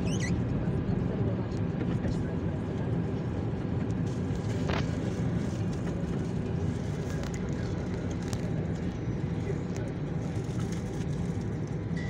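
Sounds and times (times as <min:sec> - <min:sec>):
car engine and tyre road noise: 0:00.0 - 0:12.0.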